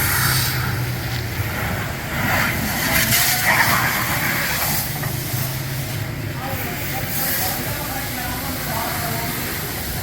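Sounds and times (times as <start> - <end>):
pressure washer humming: 0.0 - 10.0
water spray hissing: 0.0 - 10.0.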